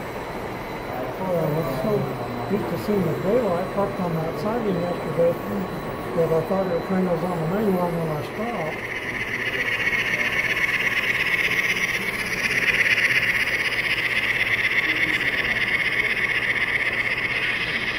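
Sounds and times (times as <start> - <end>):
model train running past: 0.0 - 17.9.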